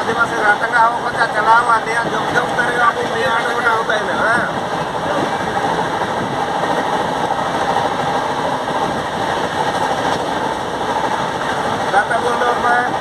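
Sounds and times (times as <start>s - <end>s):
passenger train running: 0.0s - 13.0s.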